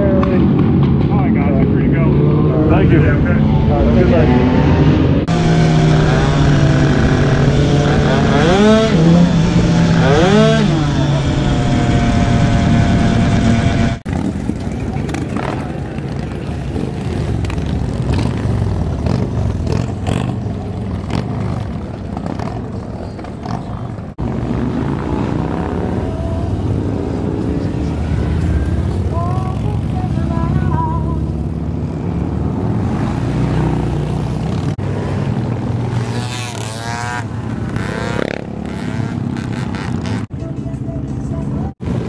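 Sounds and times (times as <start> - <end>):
motorcycles rumbling past: 0.0 - 40.3.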